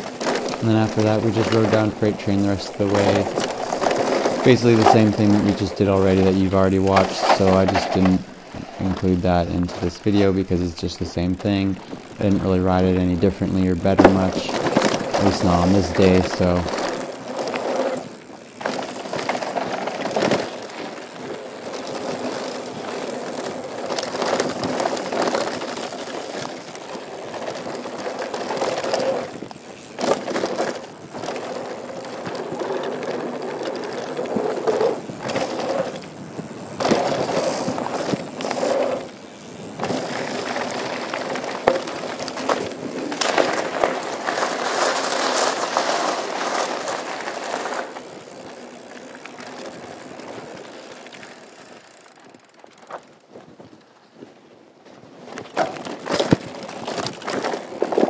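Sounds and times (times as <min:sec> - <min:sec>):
bike rattles and clicks: 0:00.0 - 0:58.0
bike tyres on gravel: 0:00.0 - 0:58.0.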